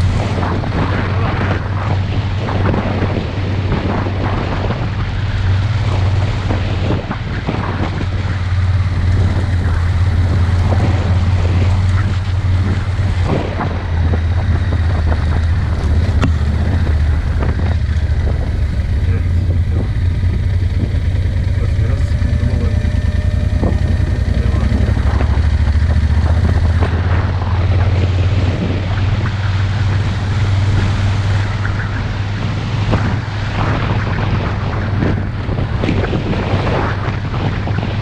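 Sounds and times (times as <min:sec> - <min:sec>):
vehicle engine droning: 0:00.0 - 0:38.0
wind noise on microphone: 0:00.0 - 0:38.0.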